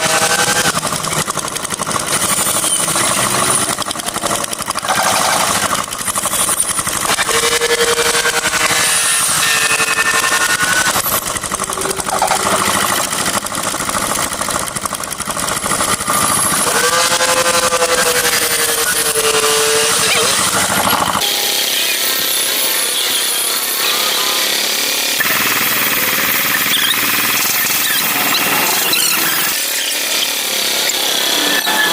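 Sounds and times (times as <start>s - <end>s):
power tool cutting into wood: 0.0s - 31.9s.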